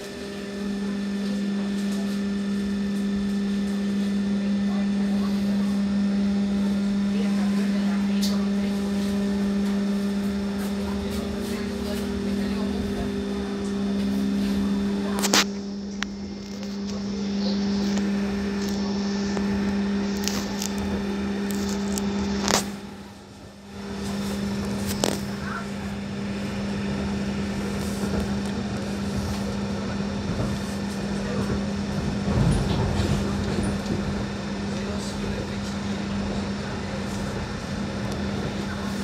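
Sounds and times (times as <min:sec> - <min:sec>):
tram electrical hum: 0:00.0 - 0:39.0.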